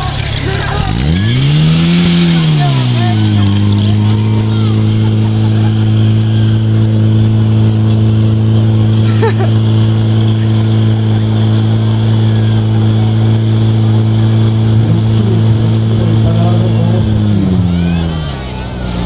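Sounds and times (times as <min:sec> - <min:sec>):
pump engine droning: 0:00.0 - 0:19.0.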